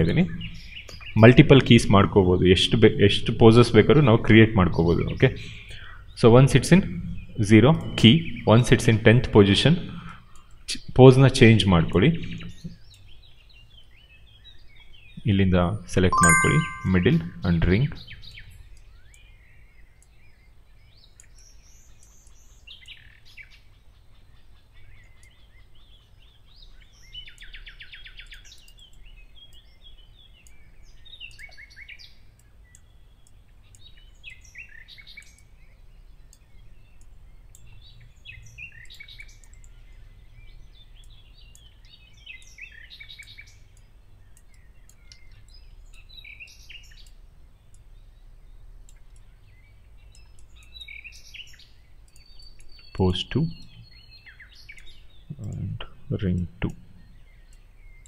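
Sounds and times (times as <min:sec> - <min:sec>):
birds chirping and calling: 0:00.0 - 0:15.4, 0:17.9 - 0:58.0.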